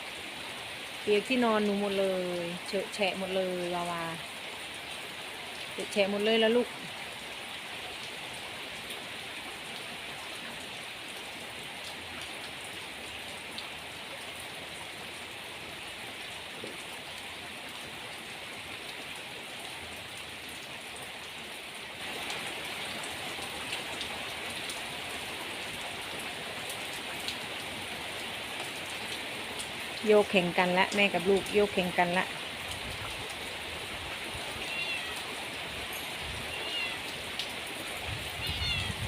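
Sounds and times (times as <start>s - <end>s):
rain falling steadily: 0.0s - 39.0s.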